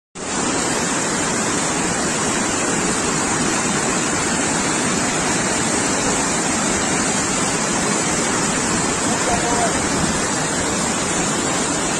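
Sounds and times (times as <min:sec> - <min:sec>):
waterfall rushing: 0:00.2 - 0:11.9.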